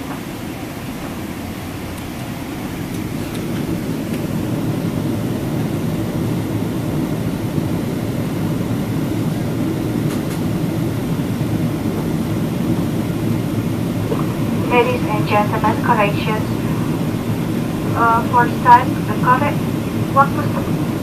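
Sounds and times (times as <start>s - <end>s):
airplane cabin engine rumble: 0.0s - 21.0s.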